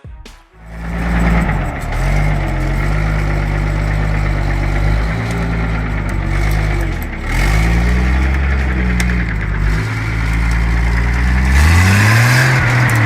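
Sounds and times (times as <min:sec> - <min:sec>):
truck diesel engine under load: 0:00.6 - 0:13.0.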